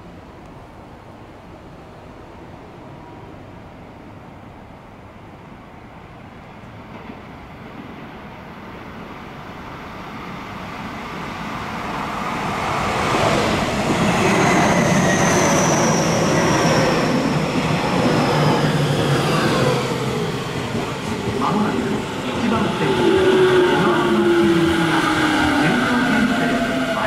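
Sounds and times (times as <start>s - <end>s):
electric train passing with whine: 0.0s - 27.0s.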